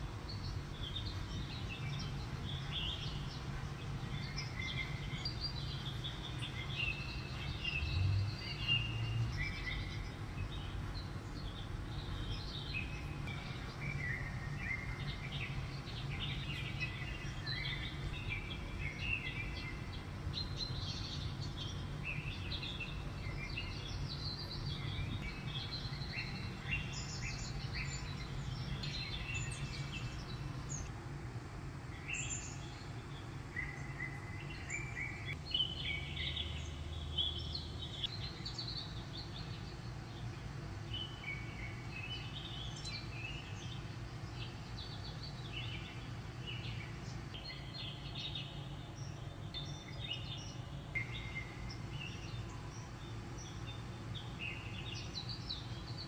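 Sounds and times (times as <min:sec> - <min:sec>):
songbirds chirping through speaker: 0:00.0 - 0:56.0
steady low hum: 0:00.0 - 0:56.0.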